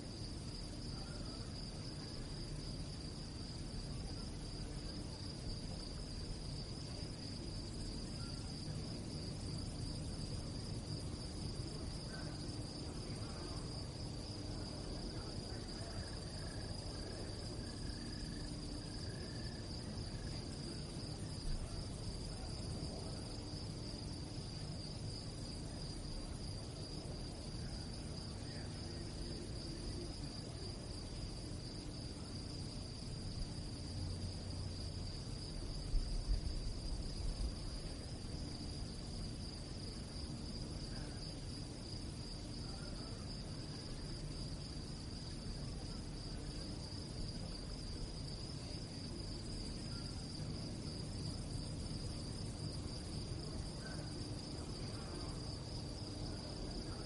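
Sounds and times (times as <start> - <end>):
crickets chirping: 0.0 - 57.0
low background rumble: 0.1 - 57.0.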